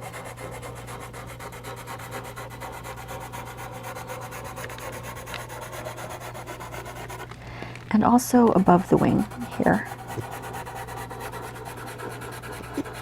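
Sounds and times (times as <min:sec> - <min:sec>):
charcoal pencil scratching paper: 0:00.0 - 0:07.3, 0:08.5 - 0:13.0.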